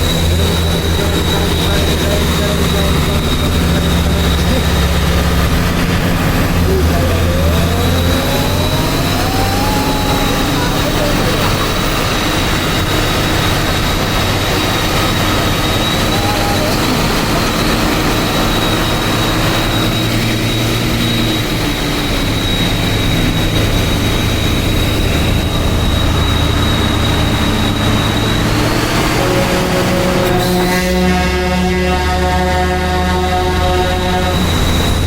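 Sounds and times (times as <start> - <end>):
thin high whine: 0.0 - 35.0
truck engine droning: 0.0 - 35.0.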